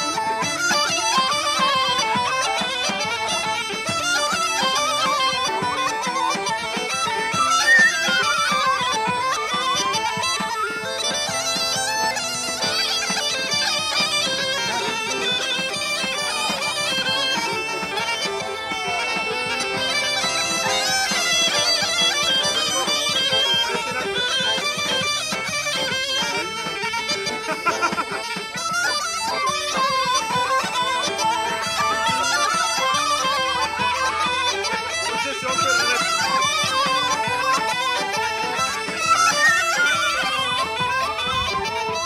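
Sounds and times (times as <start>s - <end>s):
accordion: 0.0s - 42.0s
bagpipe folk tune with drone: 0.0s - 42.0s.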